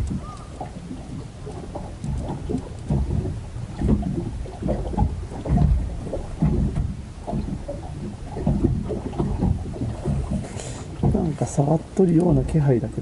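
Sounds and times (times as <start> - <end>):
waves slapping against wooden boat: 0.0 - 13.0.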